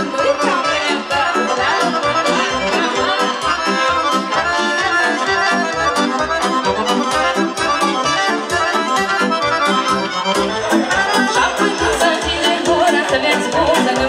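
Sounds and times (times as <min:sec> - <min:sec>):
accordion folk dance tune: 0:00.0 - 0:14.0
electronic organ with bass beat: 0:00.0 - 0:14.0.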